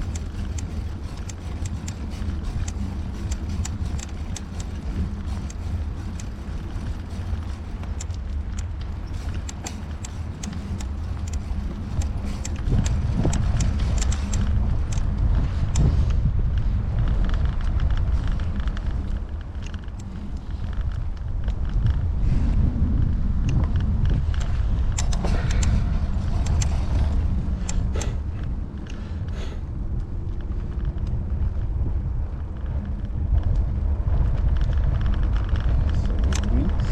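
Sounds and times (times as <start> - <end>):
bicycle clicks and rattles: 0.0 - 36.9
road rumble: 0.0 - 36.9
wind: 0.0 - 36.9.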